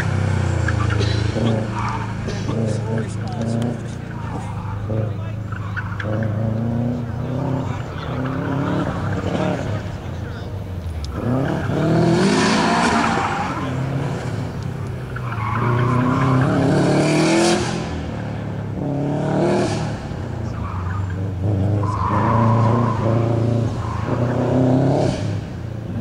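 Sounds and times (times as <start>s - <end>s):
tyres squealing: 0.0s - 18.2s, 19.8s - 26.0s
car engine revving: 0.0s - 26.0s.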